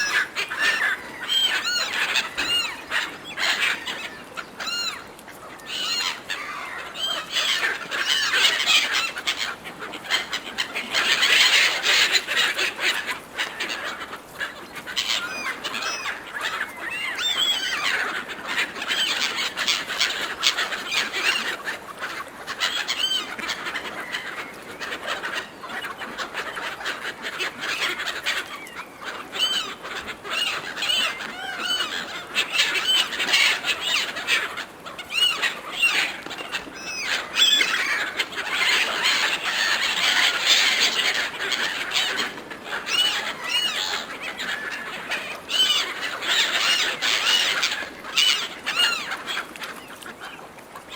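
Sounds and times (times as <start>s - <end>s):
gulls squawking: 0.0s - 50.9s.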